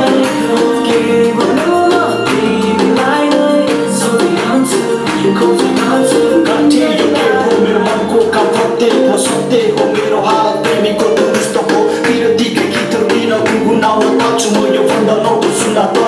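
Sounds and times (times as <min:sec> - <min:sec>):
song with singing and beat: 0:00.0 - 0:16.0.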